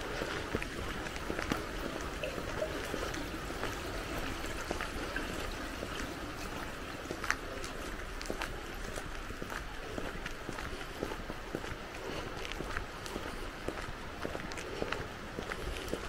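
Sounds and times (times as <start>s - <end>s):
faint footsteps: 0.0s - 16.0s
stream water flowing: 0.0s - 16.0s.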